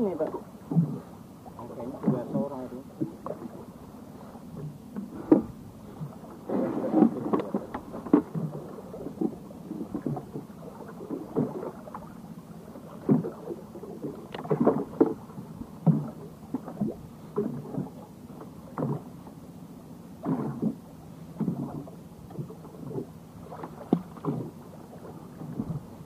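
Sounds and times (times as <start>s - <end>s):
low wash of water: 0.0s - 26.0s
waves slapping boat hull: 0.0s - 26.0s.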